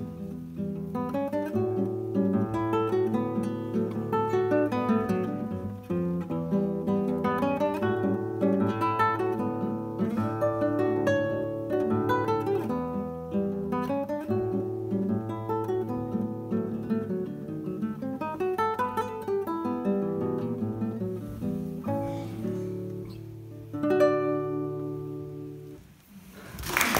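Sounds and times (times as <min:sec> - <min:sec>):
fingerpicked classical guitar: 0:00.0 - 0:26.3.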